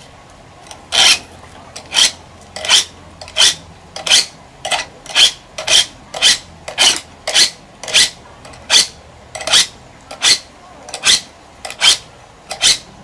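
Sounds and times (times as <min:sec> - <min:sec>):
blade scraping on sharpening stone: 0:00.9 - 0:12.9.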